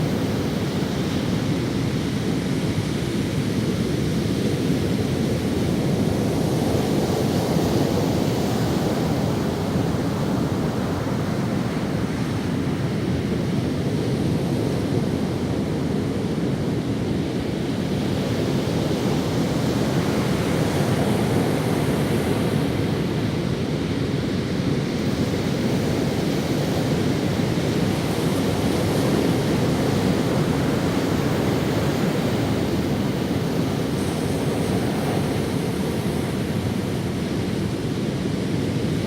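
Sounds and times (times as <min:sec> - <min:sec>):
ocean waves on a beach: 0:00.0 - 0:39.0.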